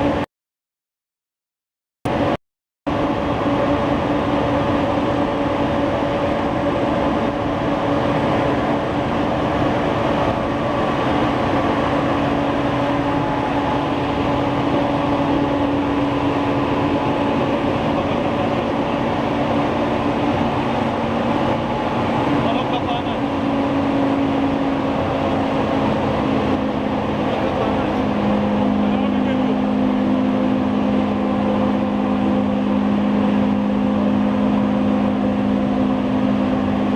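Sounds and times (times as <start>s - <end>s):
printing press rumble and hum: 2.1s - 36.9s
constant machine tones: 3.0s - 36.9s.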